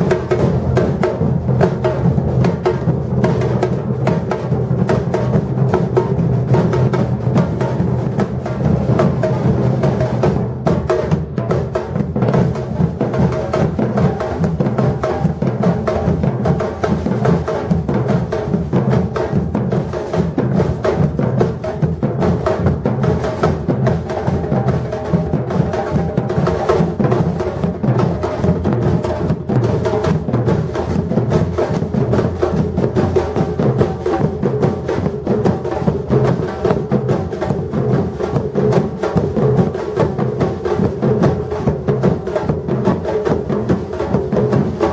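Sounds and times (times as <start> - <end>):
deep drums: 0.0 - 44.9.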